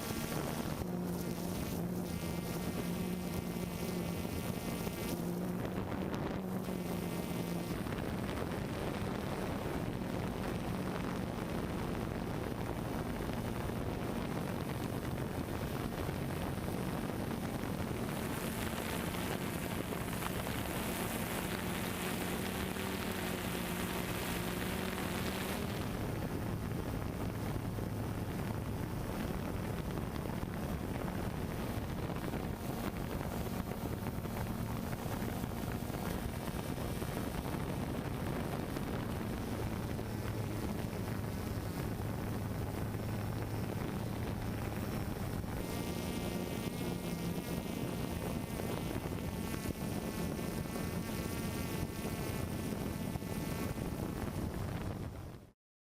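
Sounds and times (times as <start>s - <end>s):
drone propellers whirring: 0.0s - 53.8s
wind hiss: 0.0s - 55.3s.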